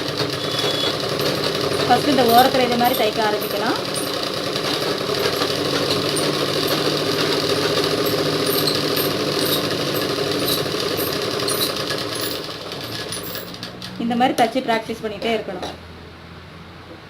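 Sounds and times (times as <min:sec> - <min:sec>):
sewing machine clatter: 0:00.0 - 0:14.6.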